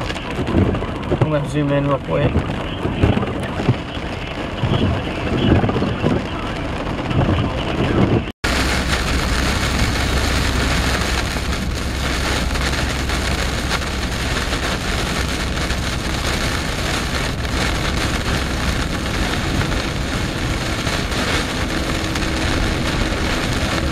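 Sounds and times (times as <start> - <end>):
car driving on wet road: 0.0 - 23.9
low vehicle rumble: 0.0 - 23.9
rain: 0.0 - 23.9.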